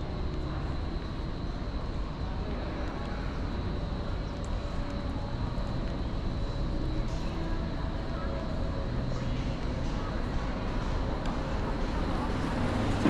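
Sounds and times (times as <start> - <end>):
low urban rumble: 0.0 - 13.0.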